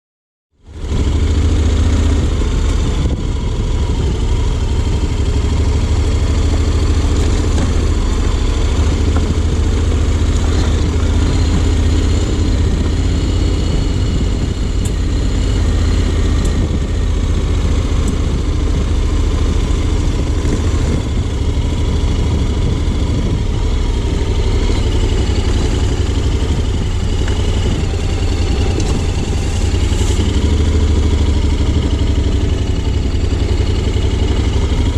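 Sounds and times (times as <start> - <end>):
motorcycle engine running: 0.6 - 34.9.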